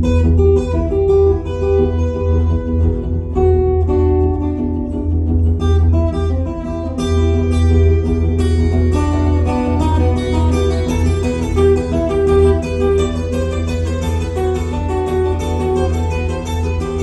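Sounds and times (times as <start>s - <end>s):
acoustic guitar through a pa: 0.0s - 17.0s.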